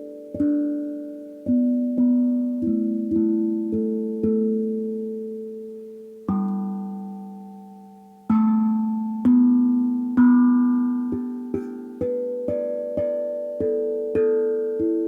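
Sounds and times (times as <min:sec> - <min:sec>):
steel tongue drum notes ringing: 0:00.0 - 0:15.0.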